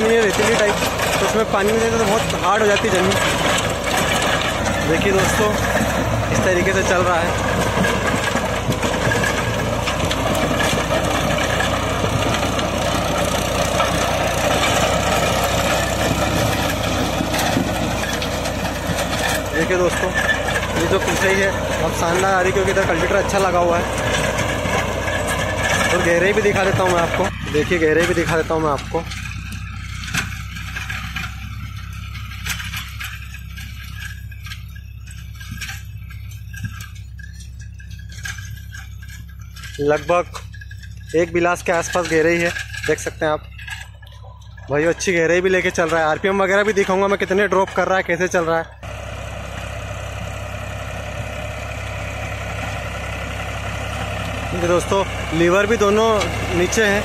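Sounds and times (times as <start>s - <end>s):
rotavator churning hard soil: 0.0s - 43.8s, 44.6s - 57.0s
diesel tractor engine running: 0.0s - 57.0s.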